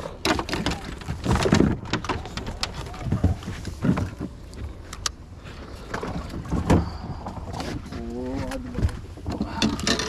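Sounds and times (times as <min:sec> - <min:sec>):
dull knocks and thumps on boat: 0:00.2 - 0:04.8, 0:05.9 - 0:10.0.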